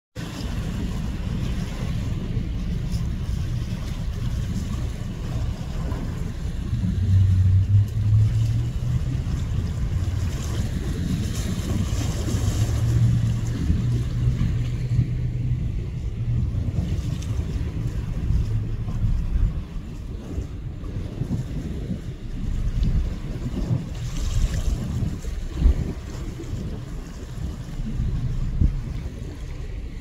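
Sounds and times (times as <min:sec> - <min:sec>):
low ship hum: 0:00.2 - 0:30.0
small waves washing on shore: 0:00.2 - 0:30.0
wind buffeting microphone: 0:00.2 - 0:30.0.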